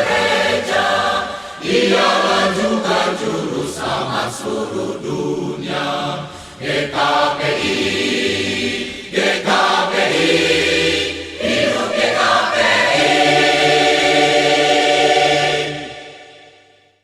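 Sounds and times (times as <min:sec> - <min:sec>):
a cappella choir singing: 0:00.0 - 0:17.0.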